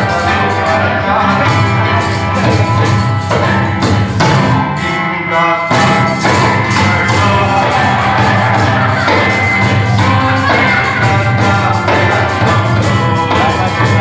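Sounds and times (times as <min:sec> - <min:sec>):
live gospel band playing: 0:00.0 - 0:14.0
person singing: 0:00.0 - 0:14.0.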